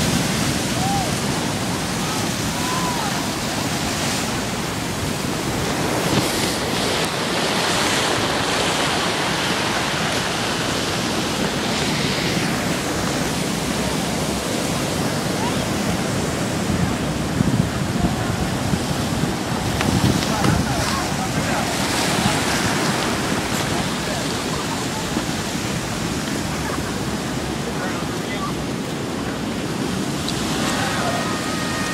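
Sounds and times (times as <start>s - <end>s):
ocean surf breaking on rocks: 0.0s - 31.9s.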